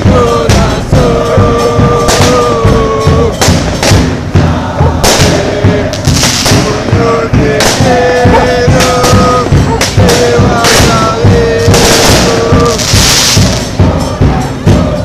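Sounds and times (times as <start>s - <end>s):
bass drums pounding: 0.0s - 15.0s
crowd chanting: 0.0s - 15.0s
firecracker bangs: 0.0s - 15.0s.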